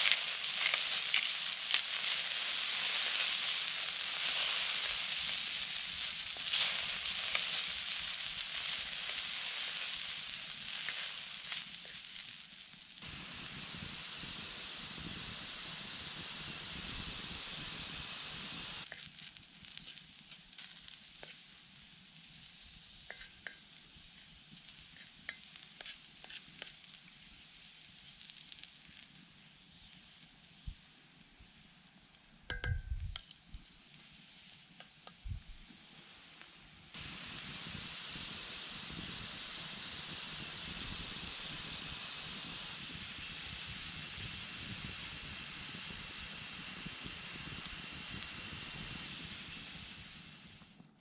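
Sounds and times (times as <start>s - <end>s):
potatoes sizzling on hot plate: 0.0s - 51.0s.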